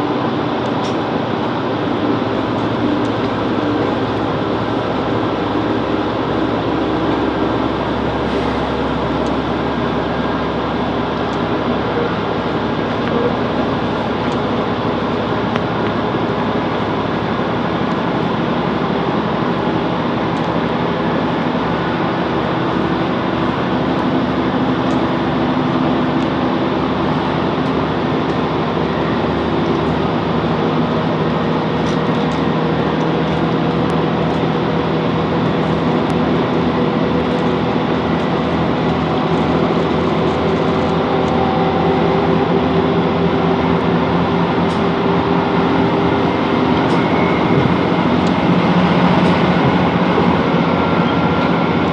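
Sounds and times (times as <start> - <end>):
diesel engine drone: 0.0 - 51.9
wheel-on-rail rumble: 0.0 - 51.9.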